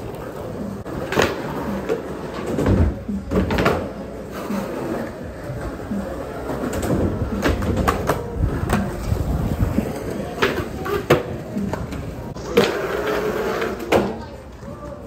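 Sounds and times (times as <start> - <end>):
skateboard clacking on ground: 0.0 - 15.0
skateboard wheels rumbling: 0.0 - 15.0.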